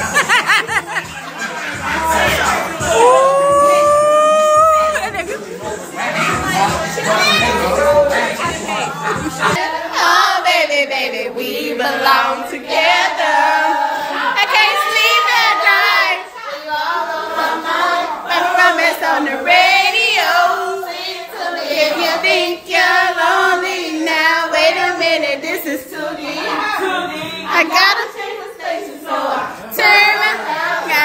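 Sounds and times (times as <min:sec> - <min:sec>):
high-pitched singing with vibrato: 0:01.8 - 0:05.4, 0:06.0 - 0:31.0.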